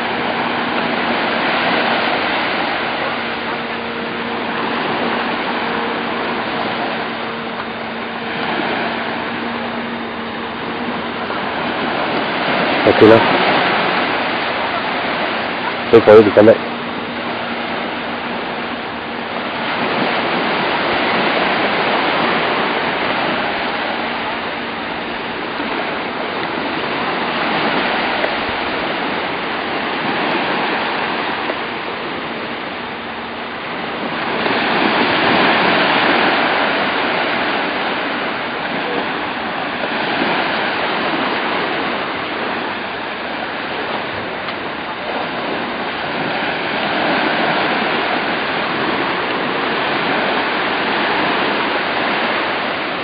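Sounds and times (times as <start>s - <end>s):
sea surf washing on shore: 0.0s - 53.0s.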